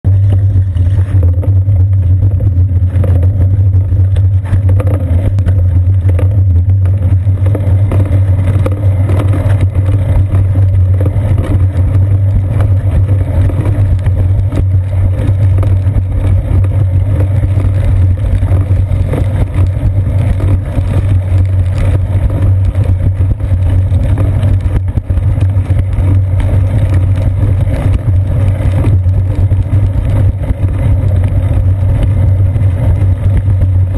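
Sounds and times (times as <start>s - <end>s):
road vibration rumble: 0.0s - 33.9s
wind rumble on microphone: 0.0s - 33.9s.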